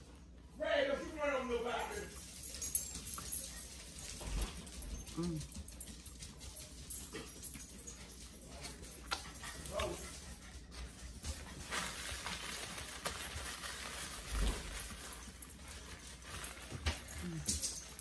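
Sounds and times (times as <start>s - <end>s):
dogs clicking and scuffling: 1.5s - 18.0s.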